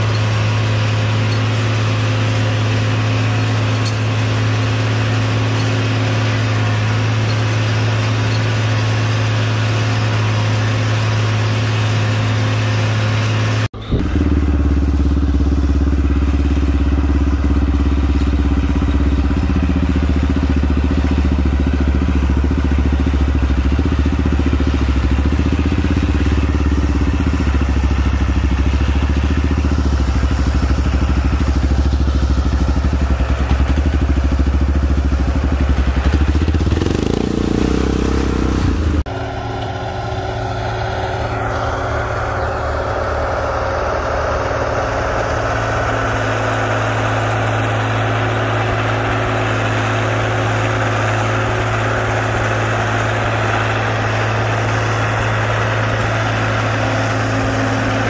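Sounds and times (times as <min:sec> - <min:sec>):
tractor engine under heavy load: 0:00.0 - 0:58.0.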